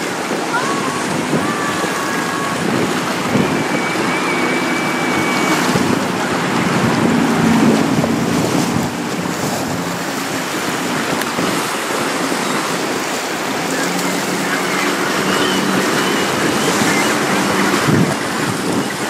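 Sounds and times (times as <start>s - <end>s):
motorboat engine running: 0.0s - 19.0s
waves washing: 0.0s - 19.0s
wind buffeting microphone: 0.0s - 19.0s.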